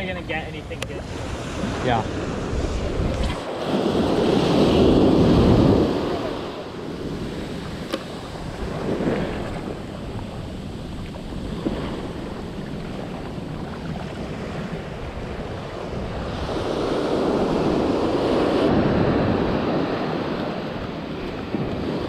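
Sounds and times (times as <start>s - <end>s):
ocean surf washing over sand: 0.0s - 22.0s
wind buffeting microphone: 0.0s - 22.0s.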